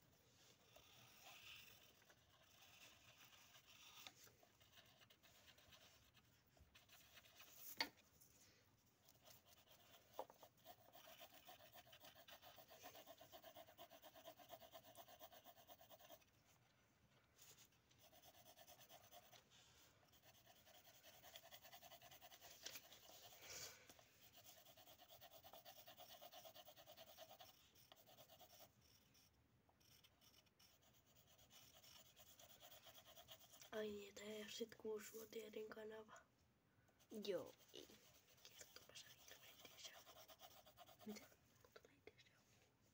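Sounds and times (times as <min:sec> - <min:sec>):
pencil scratching on paper: 0:00.0 - 0:08.0, 0:09.0 - 0:16.5, 0:17.4 - 0:35.9, 0:37.0 - 0:41.9.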